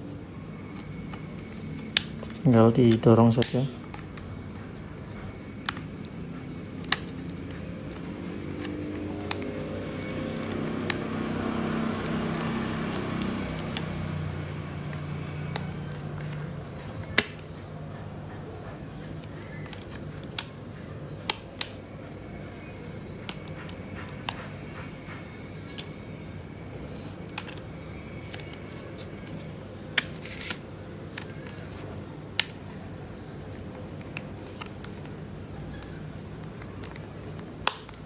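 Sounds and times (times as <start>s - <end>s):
plastic laptop parts clicking: 0.6s - 24.5s, 26.8s - 32.8s, 33.5s - 38.0s.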